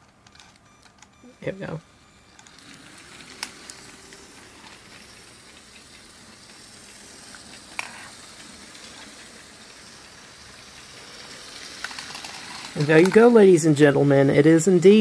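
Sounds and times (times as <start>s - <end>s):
toy train motor whirring: 1.9s - 15.0s.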